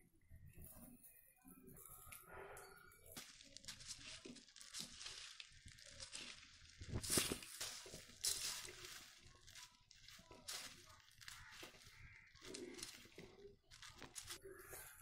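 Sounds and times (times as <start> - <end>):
puffed rice rustling in a bowl: 0.5 - 15.0.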